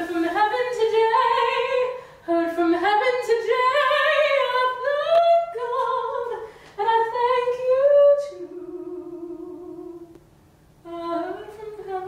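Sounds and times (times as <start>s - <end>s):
woman singing unaccompanied: 0.0s - 10.2s, 10.8s - 12.0s.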